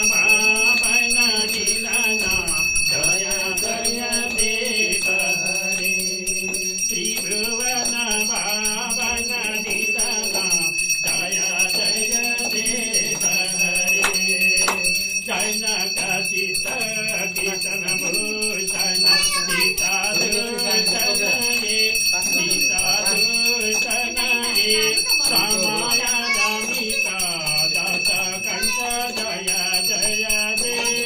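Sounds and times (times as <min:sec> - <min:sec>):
group singing a hymn: 0:00.0 - 0:31.0
hand bell ringing: 0:00.0 - 0:31.0.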